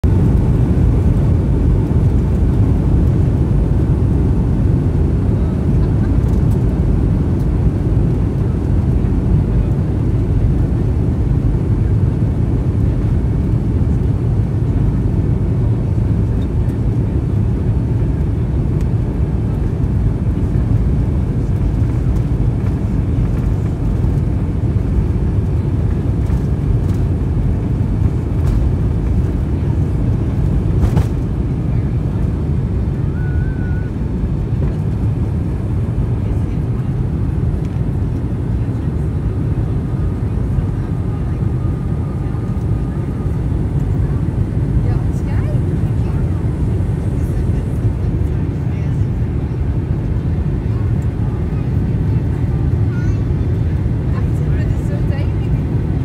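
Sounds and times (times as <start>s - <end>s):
jet airliner cabin rumble: 0.0s - 56.0s.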